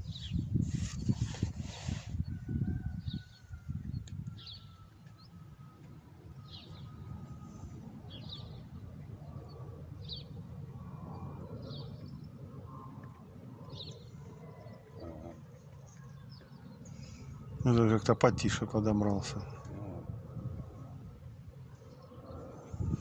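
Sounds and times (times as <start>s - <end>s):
aircraft engines low rumble: 0.0s - 23.0s.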